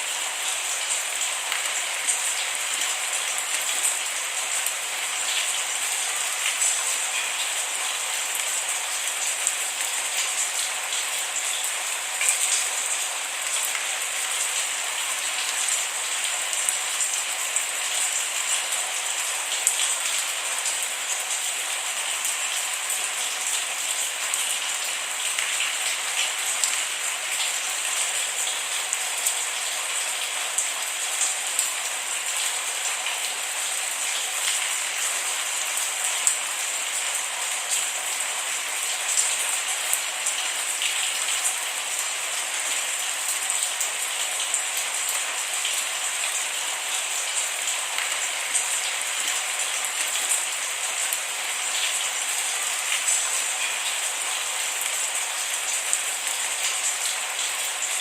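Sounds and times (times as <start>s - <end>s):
raindrops pattering on a surface: 0.0s - 58.0s
steady rain hissing: 0.0s - 58.0s.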